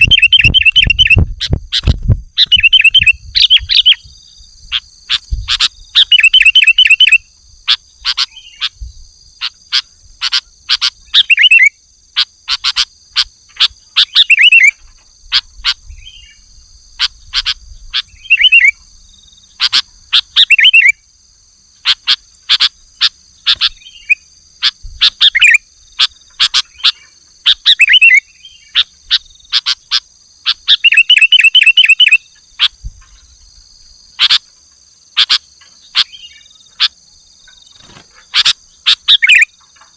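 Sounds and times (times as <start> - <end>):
bird trilling: 0.0 - 4.0, 4.7 - 8.8, 9.4 - 16.4, 17.0 - 18.8, 19.5 - 21.0, 21.8 - 32.8, 34.2 - 34.5, 35.2 - 39.6
bird singing sharp calls: 0.0 - 21.1, 21.8 - 33.5, 35.1 - 39.9.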